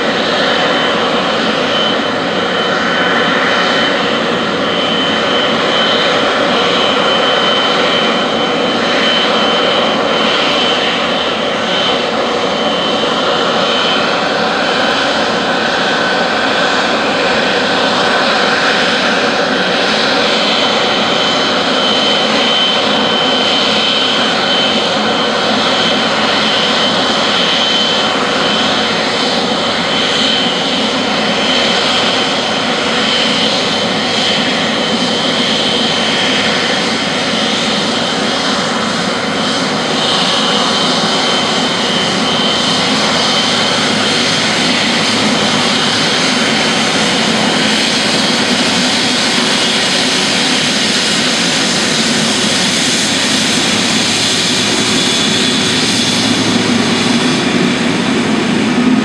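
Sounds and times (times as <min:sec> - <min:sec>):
jet engine roar: 0:00.0 - 0:59.0.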